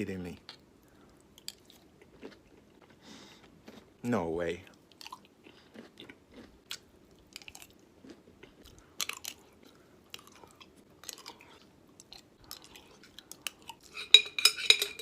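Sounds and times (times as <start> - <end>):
person chewing crunchy food: 1.1 - 4.0, 4.7 - 14.0.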